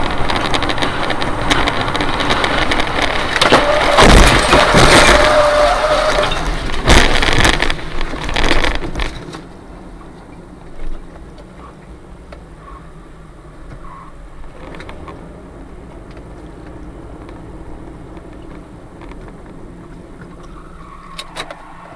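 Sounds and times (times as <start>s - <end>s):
car driving on wet road: 0.0s - 21.9s.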